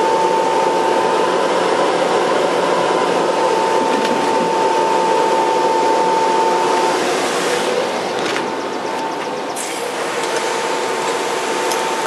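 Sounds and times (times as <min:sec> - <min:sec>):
high whistle of air through pipes: 0:00.0 - 0:12.0.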